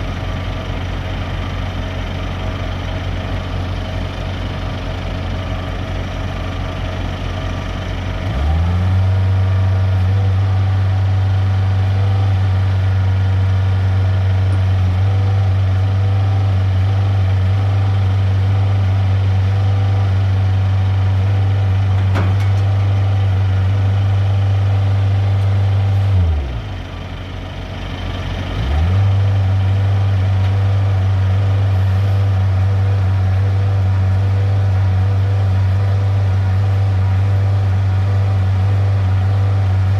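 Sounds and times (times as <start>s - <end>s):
truck diesel engine revving: 7.4s - 39.9s.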